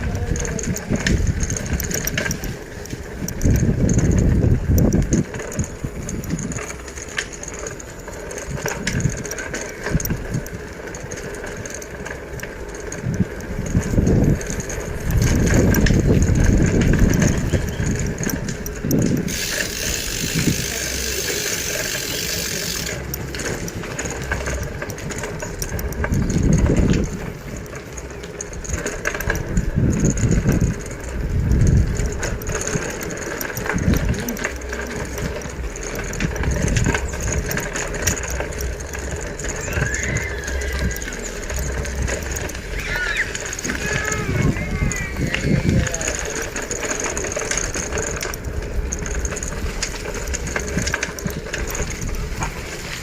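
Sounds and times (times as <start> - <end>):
road rumble: 0.0 - 53.0
wind buffeting microphone: 0.0 - 53.0.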